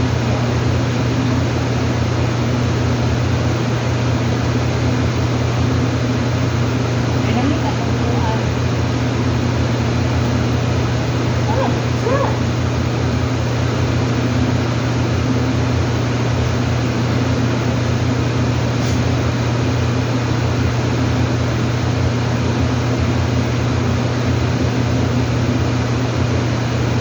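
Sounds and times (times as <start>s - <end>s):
loud machine hum: 0.0s - 22.9s.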